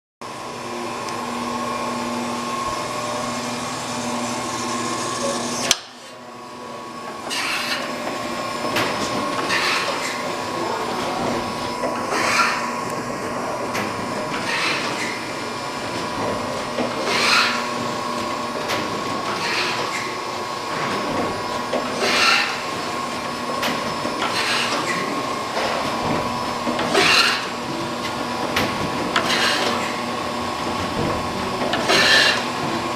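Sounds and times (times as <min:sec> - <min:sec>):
grinder machine hum: 0:00.2 - 0:32.9.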